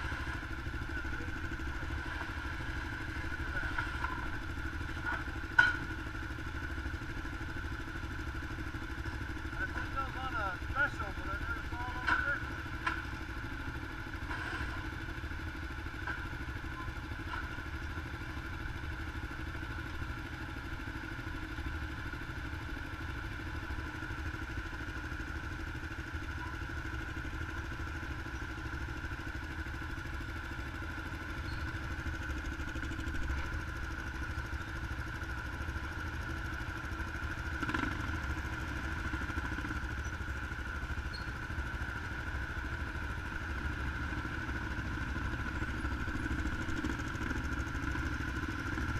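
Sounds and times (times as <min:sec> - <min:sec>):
engine running with whine: 0:00.0 - 0:48.9.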